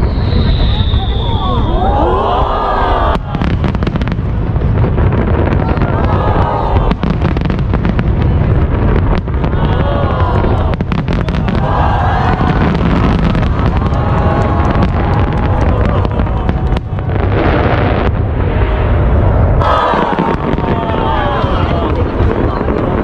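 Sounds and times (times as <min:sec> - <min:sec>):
fireworks cracking and banging: 0:00.0 - 0:23.0
low rumble: 0:00.0 - 0:23.0.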